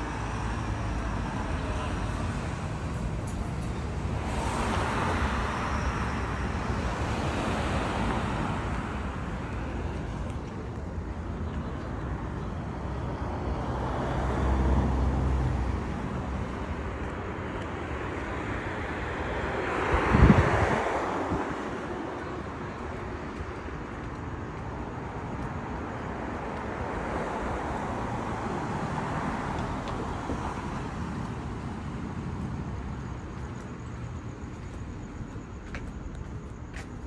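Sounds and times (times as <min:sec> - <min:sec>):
traffic noise: 0:00.0 - 0:37.0.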